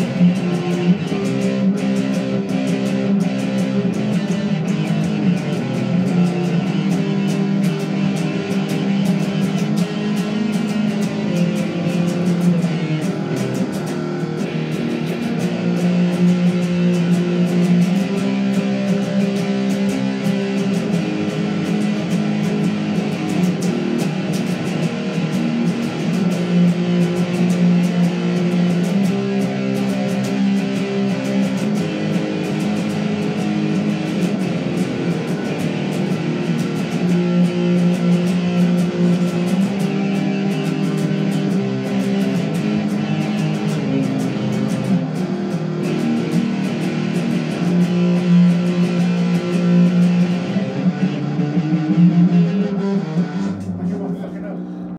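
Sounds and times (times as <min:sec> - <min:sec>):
strummed guitar chords: 0:00.0 - 0:54.9.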